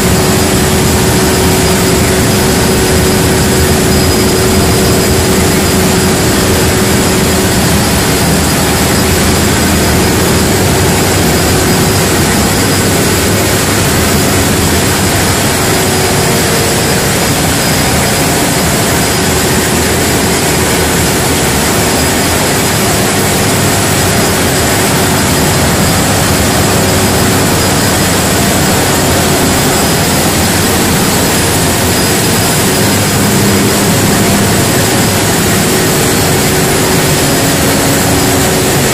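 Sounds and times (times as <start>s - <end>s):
diesel generators droning: 0.0s - 38.9s.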